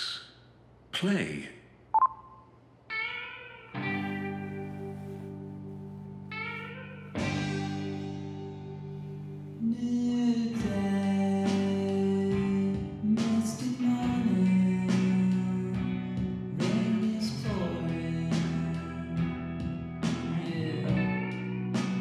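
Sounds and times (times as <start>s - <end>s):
slow plucked guitar music: 2.9s - 22.0s.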